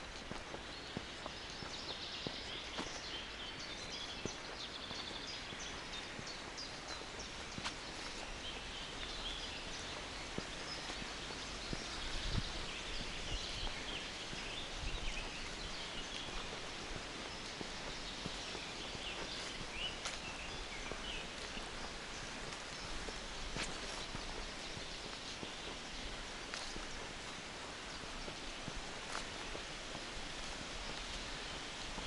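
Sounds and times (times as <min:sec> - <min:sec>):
footsteps on forest floor: 0:00.0 - 0:32.0
rustling on forest floor: 0:00.0 - 0:32.0
small birds chirping: 0:00.0 - 0:32.0.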